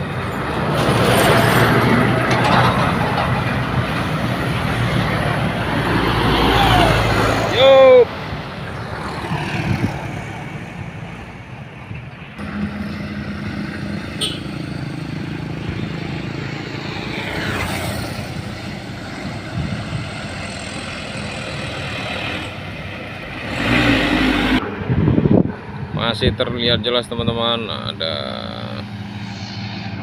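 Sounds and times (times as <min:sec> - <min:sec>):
truck diesel engine under load: 0:00.0 - 0:26.4, 0:27.5 - 0:30.0.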